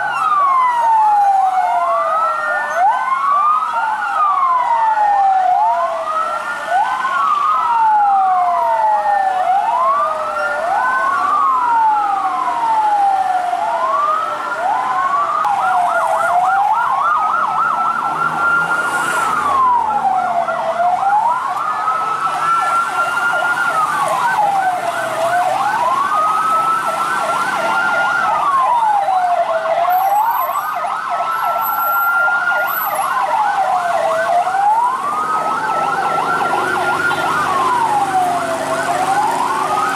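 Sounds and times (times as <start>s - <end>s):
fast warbling siren: 0.0s - 39.9s
sirens wailing: 0.0s - 39.9s.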